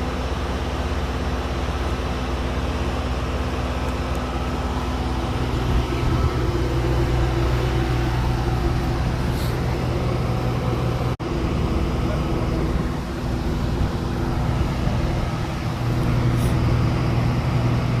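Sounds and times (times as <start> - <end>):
diesel machinery humming: 0.0 - 18.0.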